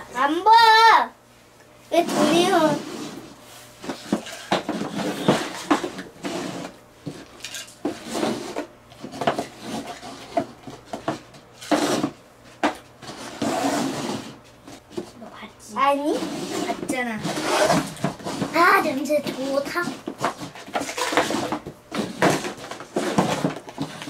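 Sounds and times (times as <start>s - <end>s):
cups scraping on a tabletop: 1.9s - 15.3s, 15.9s - 24.0s.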